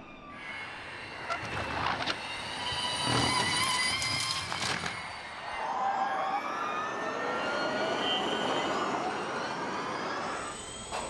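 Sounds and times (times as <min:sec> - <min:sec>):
electric race car drivetrain whining: 0:00.0 - 0:11.0.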